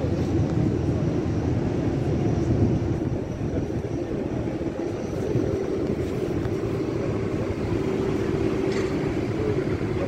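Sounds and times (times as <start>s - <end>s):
continuous steady hum: 0.0s - 10.0s
low engine rumble: 0.0s - 10.0s.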